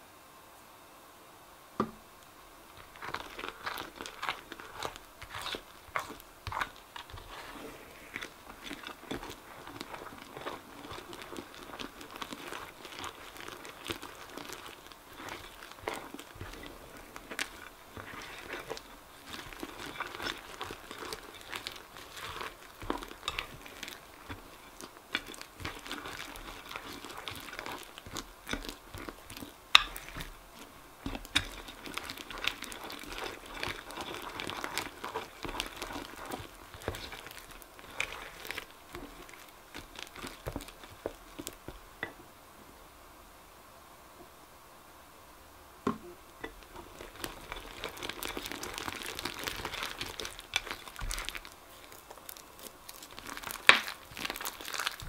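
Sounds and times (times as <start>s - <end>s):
slime squelching and crackling: 2.2s - 41.9s, 46.5s - 55.0s.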